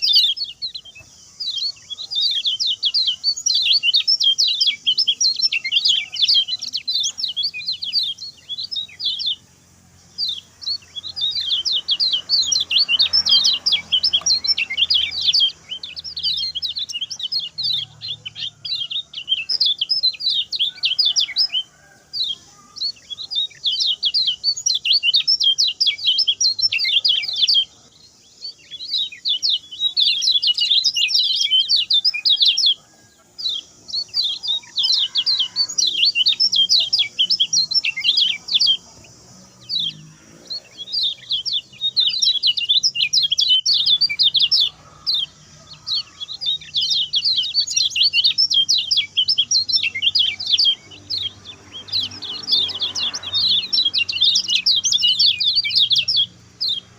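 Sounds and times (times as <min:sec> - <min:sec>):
bird singing rapid high chirps: 0:00.0 - 0:56.9.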